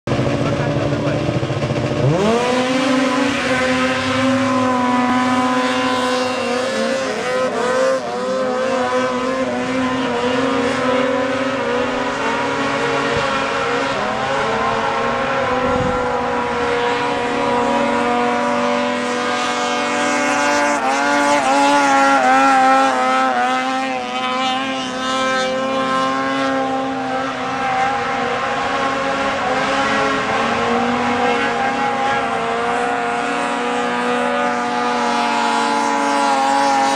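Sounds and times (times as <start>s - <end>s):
snowmobile engines whining: 0.1s - 36.9s.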